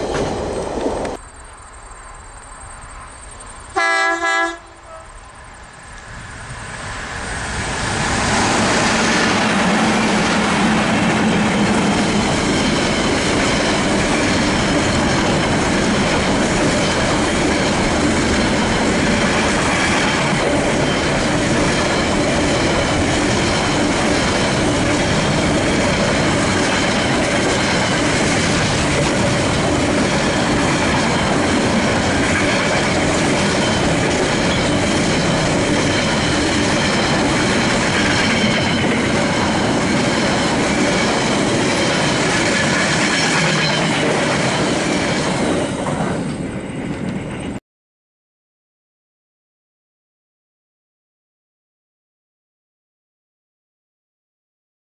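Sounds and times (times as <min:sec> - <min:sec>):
train wheels on rails: 0:00.0 - 0:47.6.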